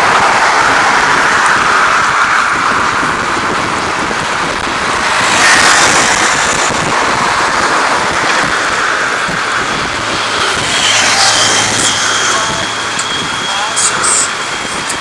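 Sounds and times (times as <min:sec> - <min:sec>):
road traffic noise: 0:00.0 - 0:15.0
wind rushing over microphone: 0:00.0 - 0:15.0.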